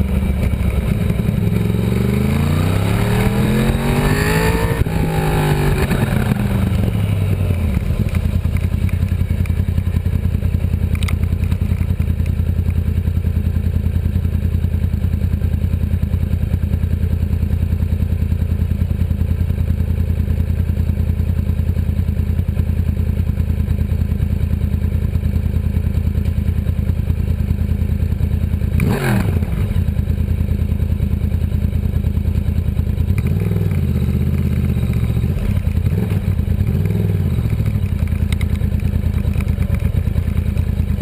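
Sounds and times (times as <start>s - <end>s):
motorcycle engine revving and idling: 0.0s - 41.0s.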